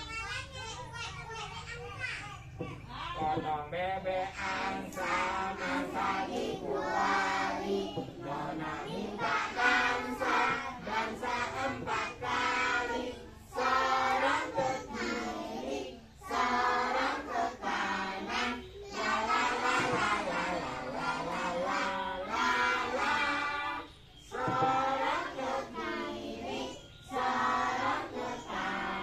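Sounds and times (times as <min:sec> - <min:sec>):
children singing in unison: 0:02.7 - 0:29.0.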